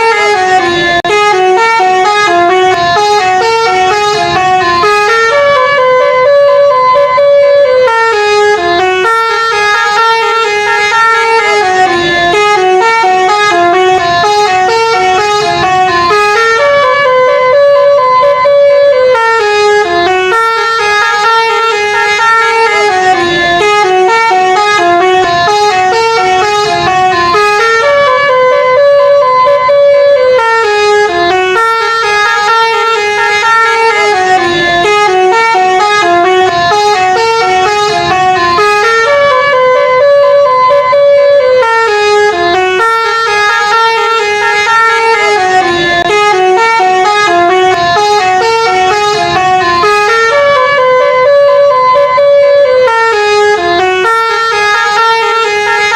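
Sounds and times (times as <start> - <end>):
musical bus horn: 0.0 - 55.9.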